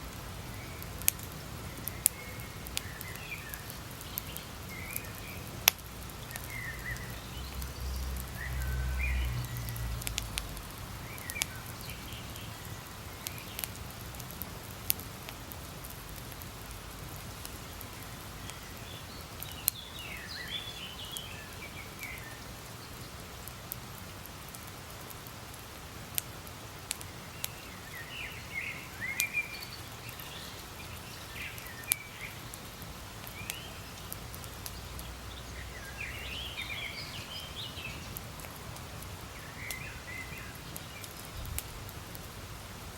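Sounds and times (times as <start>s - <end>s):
campfire crackling and popping: 0.0s - 42.9s
small birds chirping: 0.0s - 42.9s.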